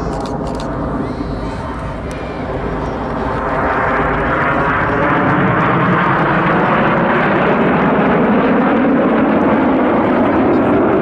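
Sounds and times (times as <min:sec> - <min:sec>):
jet aircraft roaring overhead: 0:00.0 - 0:11.0.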